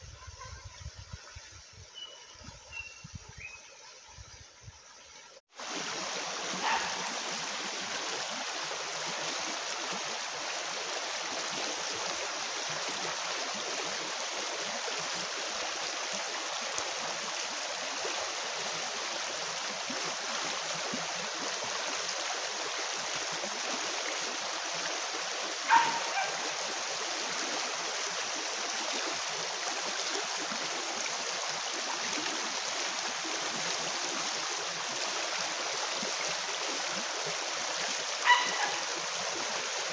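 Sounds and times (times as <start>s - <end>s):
river water rushing over rocks: 5.6s - 39.9s.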